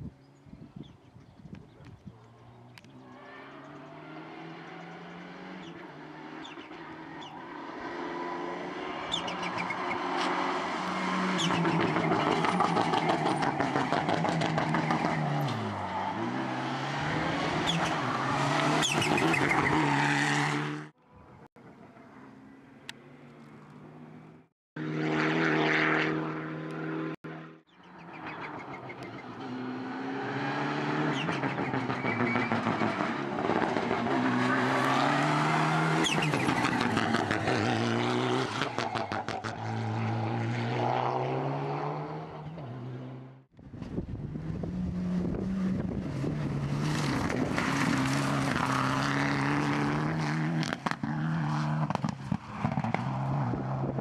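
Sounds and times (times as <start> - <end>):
rally car engines revving: 2.3 - 20.9, 24.8 - 54.0.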